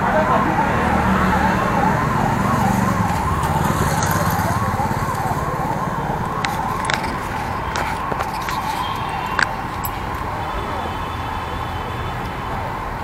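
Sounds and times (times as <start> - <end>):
low road traffic rumble: 0.0 - 13.0
warbling emergency siren: 0.0 - 13.0.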